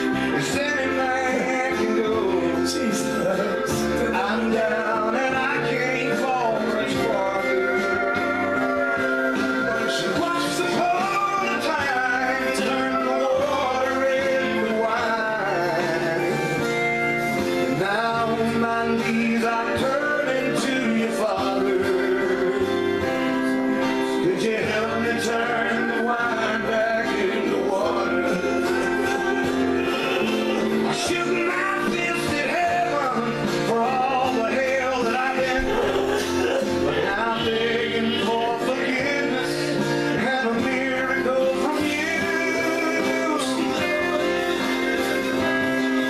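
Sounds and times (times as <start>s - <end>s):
guitar and instrumental backing: 0.0s - 46.0s
man singing slow melody: 0.0s - 46.0s.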